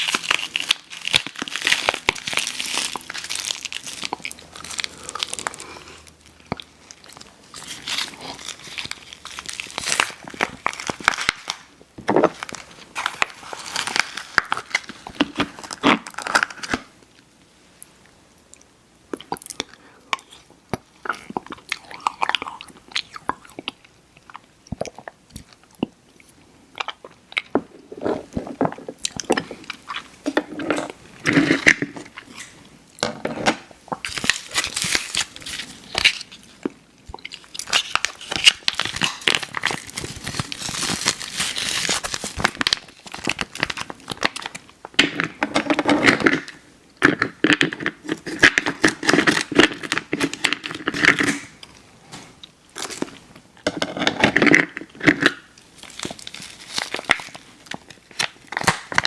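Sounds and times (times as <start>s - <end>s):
candy wrapper crinkling and tearing: 0.0s - 16.9s, 26.8s - 51.8s, 52.7s - 59.0s.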